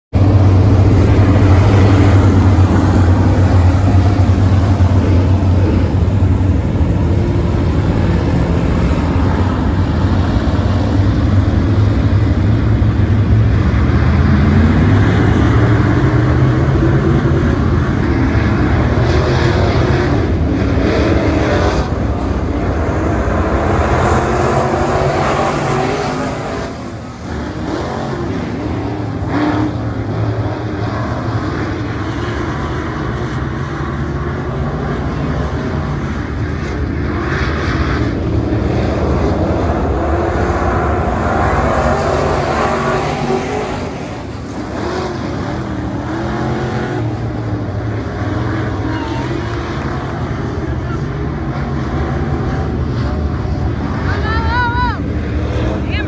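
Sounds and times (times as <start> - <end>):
race car engines revving: 0.1 - 56.0.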